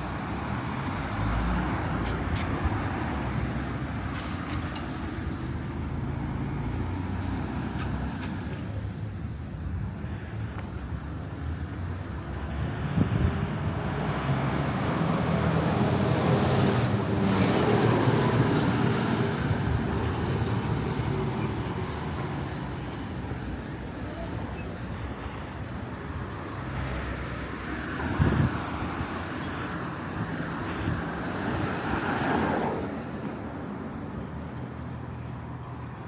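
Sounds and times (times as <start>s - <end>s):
traffic hum: 0.0s - 36.0s.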